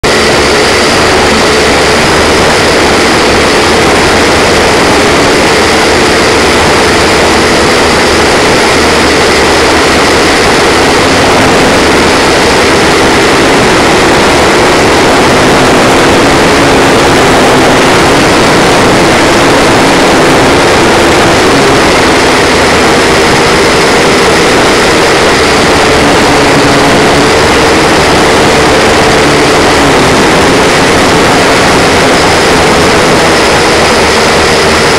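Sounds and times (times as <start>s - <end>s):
quadcopter motors buzzing: 0.0s - 34.9s.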